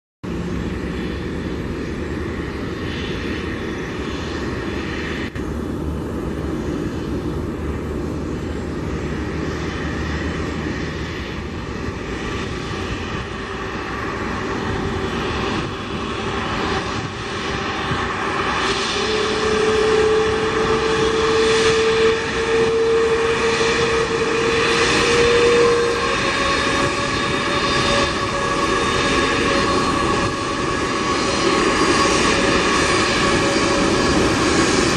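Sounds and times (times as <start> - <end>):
jet engines taxiing: 0.2 - 34.9
steady whine: 0.3 - 34.9.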